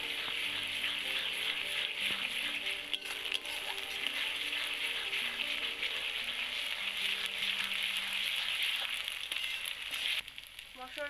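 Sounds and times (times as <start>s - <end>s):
metal spatula stirring: 0.0s - 10.2s
onions sizzling in hot oil: 0.0s - 11.0s.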